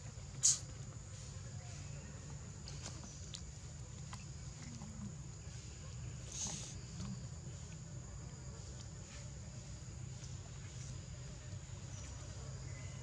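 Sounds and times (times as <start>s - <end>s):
insects droning: 0.0s - 13.0s
low outdoor rumble: 0.0s - 13.0s.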